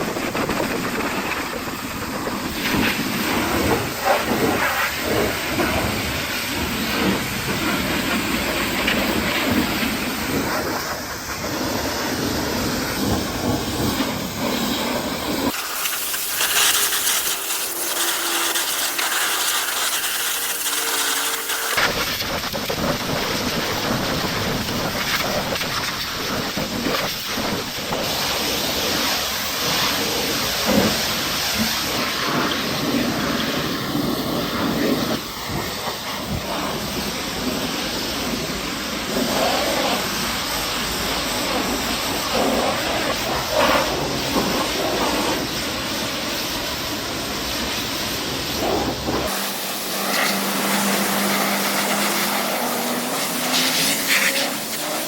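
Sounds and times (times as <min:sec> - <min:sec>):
pressure washer spraying water: 0:00.0 - 0:55.0.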